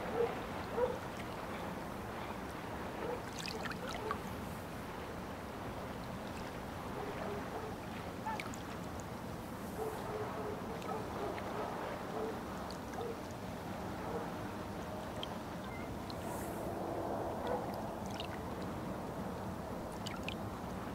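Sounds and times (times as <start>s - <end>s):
low background noise: 0.0s - 20.9s
water lapping against shore: 0.0s - 20.9s.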